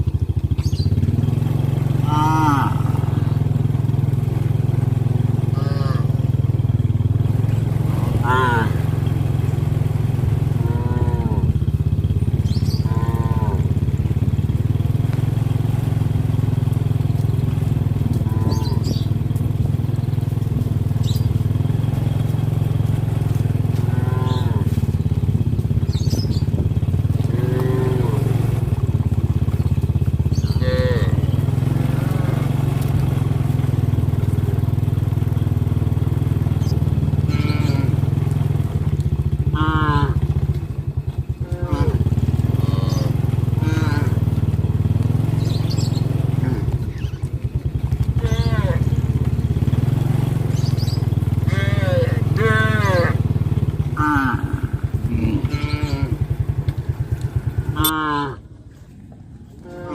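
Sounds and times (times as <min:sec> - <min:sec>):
small engine idling: 0:00.0 - 0:59.9
cattle calls: 0:01.3 - 0:59.9.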